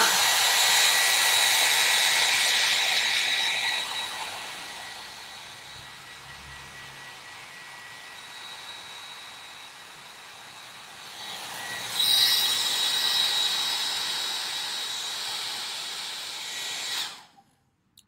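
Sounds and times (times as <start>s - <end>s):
hair dryer running: 0.0s - 17.4s.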